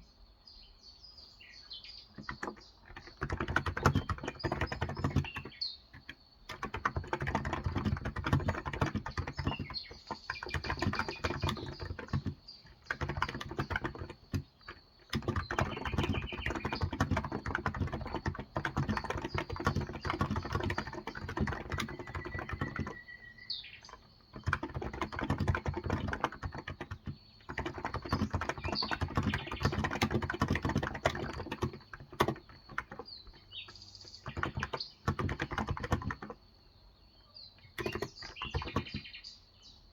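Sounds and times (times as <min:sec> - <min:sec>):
faint birds chirping: 0:00.0 - 0:39.9
fast typing on keyboard: 0:02.1 - 0:36.5, 0:37.7 - 0:39.1.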